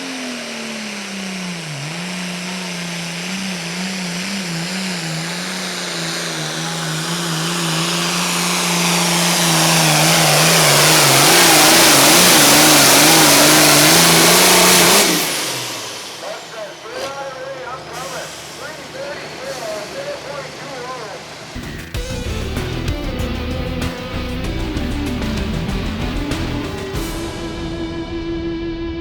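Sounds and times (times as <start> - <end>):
diesel tractor engine at full throttle: 0.0 - 29.0.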